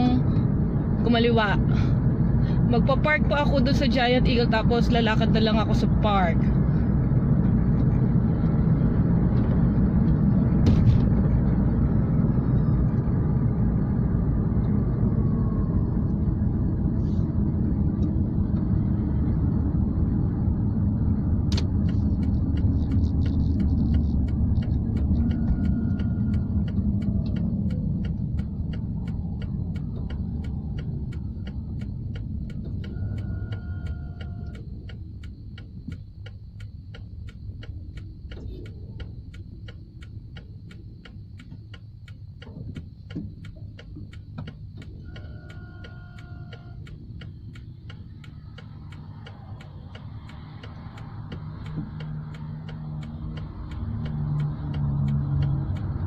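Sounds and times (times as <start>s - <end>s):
car cabin road and engine rumble: 0.0s - 56.0s
turn signal ticking: 0.0s - 56.0s.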